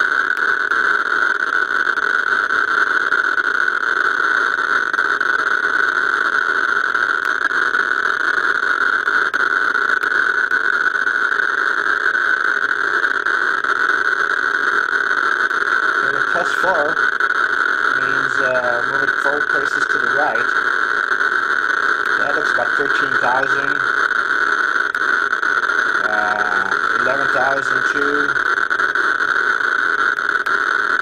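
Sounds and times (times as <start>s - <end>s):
geiger counter crackling buzz: 0.0s - 31.0s.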